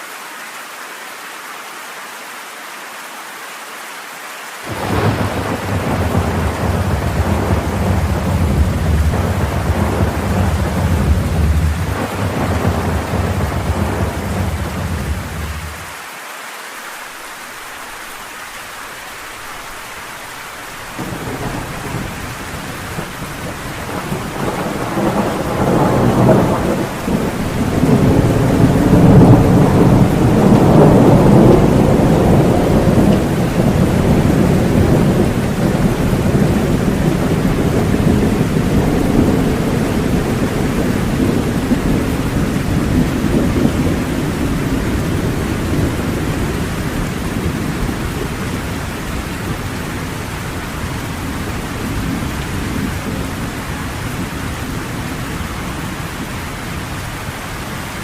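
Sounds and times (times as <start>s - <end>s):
steady rain: 0.0s - 58.0s
thunder rumbling: 4.7s - 15.9s, 20.8s - 57.0s.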